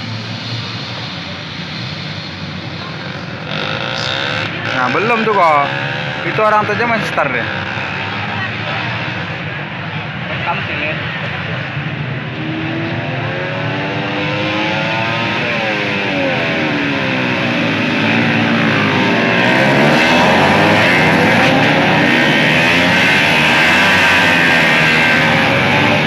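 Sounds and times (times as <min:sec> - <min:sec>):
racing motorcycles accelerating: 0:00.0 - 0:26.0.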